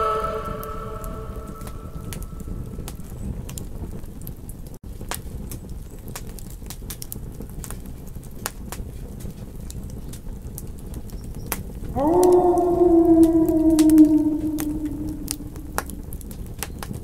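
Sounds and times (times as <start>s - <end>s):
campfire crackling: 0.5s - 17.0s.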